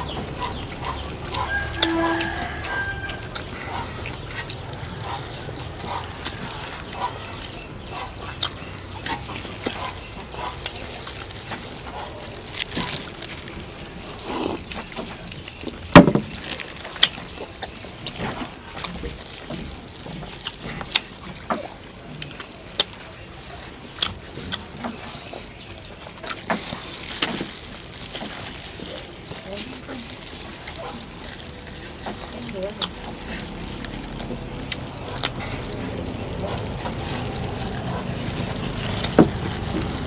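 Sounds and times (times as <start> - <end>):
chewing and food handling clicks: 0.0 - 40.0.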